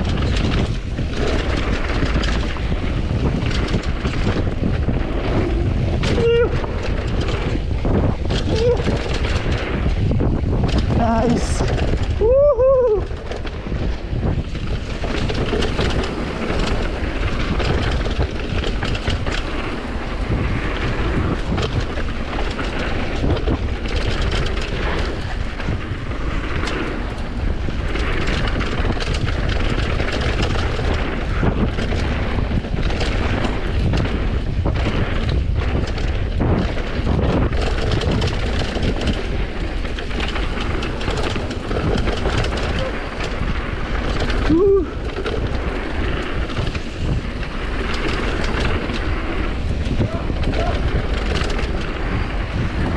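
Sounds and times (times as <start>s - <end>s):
bike rattling over bumps: 0.0s - 52.9s
tyres rolling over dirt: 0.0s - 52.9s
wind rushing over microphone: 0.0s - 52.9s.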